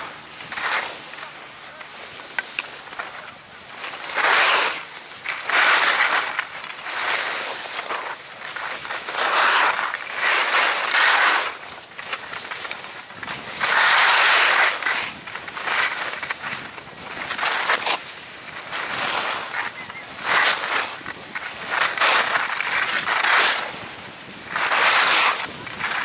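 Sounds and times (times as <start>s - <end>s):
skis scraping on snow: 0.0s - 26.0s.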